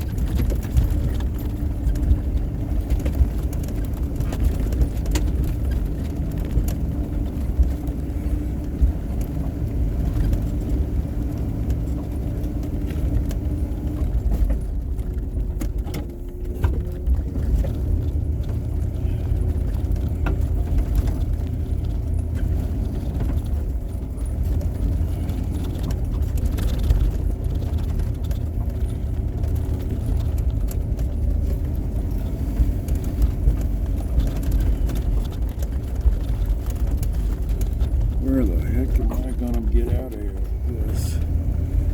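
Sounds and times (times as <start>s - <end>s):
light rattles and clicks: 0.0s - 41.9s
vehicle engine rumbling: 0.0s - 41.9s.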